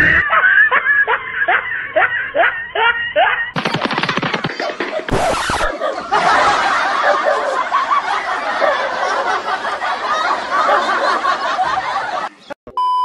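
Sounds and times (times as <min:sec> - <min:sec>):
comic laughter sound effect: 0:00.0 - 0:03.6, 0:04.3 - 0:12.6.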